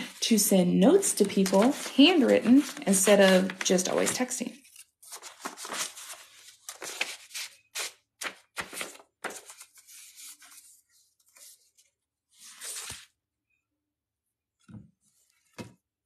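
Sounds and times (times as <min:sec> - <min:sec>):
paper rustling and crinkling: 0:00.0 - 0:13.1.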